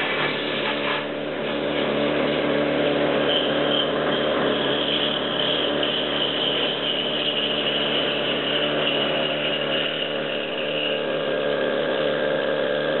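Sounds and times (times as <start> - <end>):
power tool whining on steel: 0.0 - 13.0.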